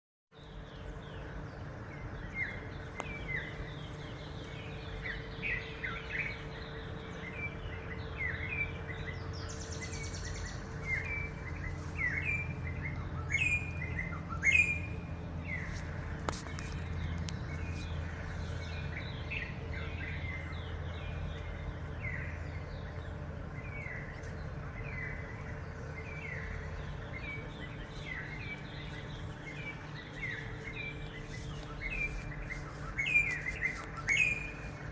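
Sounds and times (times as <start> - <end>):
birds chirping: 0.3 - 34.9
steady low hum: 0.3 - 34.9.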